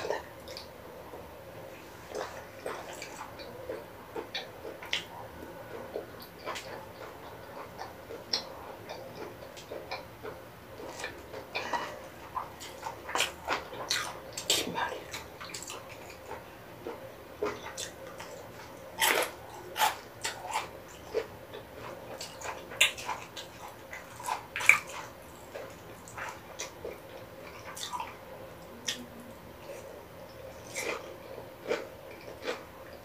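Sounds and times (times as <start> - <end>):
wet chewing: 0.0 - 33.0.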